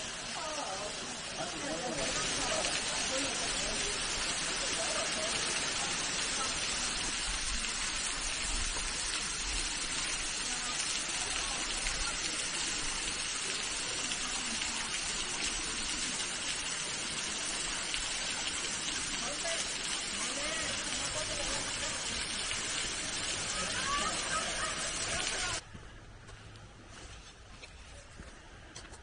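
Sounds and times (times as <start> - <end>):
waterfall splashing onto rocks: 0.0 - 25.6.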